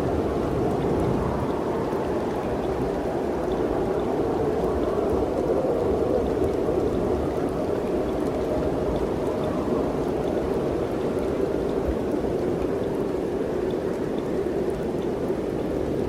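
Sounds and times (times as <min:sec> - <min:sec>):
wind rushing through forest: 0:00.0 - 0:16.0.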